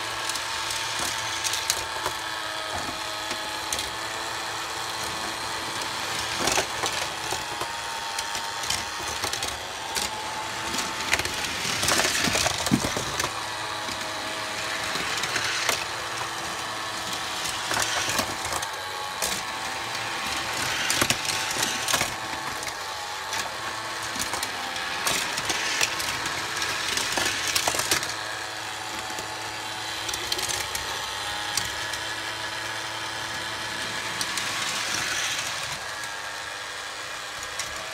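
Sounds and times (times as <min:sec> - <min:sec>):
toy cars clicking on plastic track: 0:00.0 - 0:37.9
toy motor whirring: 0:00.0 - 0:37.9.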